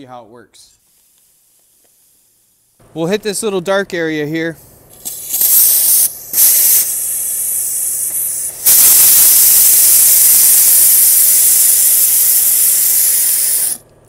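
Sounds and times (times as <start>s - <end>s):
media blaster air hiss: 0.7s - 2.8s, 4.5s - 13.8s.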